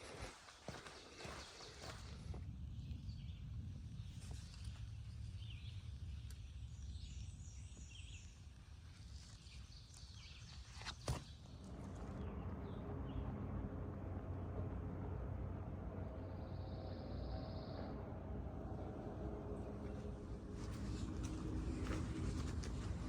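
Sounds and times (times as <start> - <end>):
low wind rumble: 0.0 - 10.4, 11.3 - 23.0.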